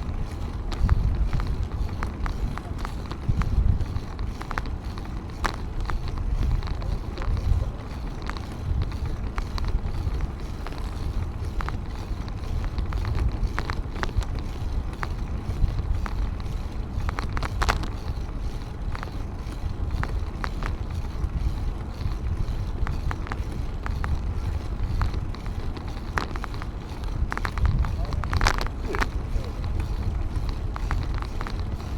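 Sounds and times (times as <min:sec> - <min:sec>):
bicycle clicks and rattles: 0:00.0 - 0:31.9
wind rumbling on microphone: 0:00.0 - 0:31.9.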